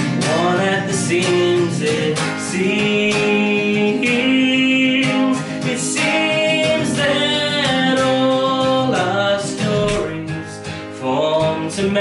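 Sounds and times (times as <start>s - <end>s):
acoustic guitar strummed: 0.0s - 12.0s
man singing: 0.0s - 12.0s.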